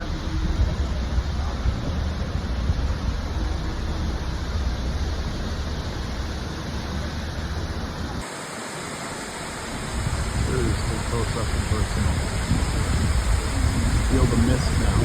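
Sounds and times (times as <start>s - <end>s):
low rumble: 0.0s - 8.2s, 9.9s - 15.0s
waterfall rushing: 0.0s - 15.0s.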